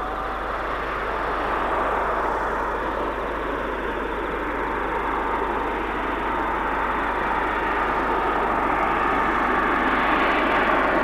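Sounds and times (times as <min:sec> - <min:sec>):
jet airliner roar: 0:00.0 - 0:11.0.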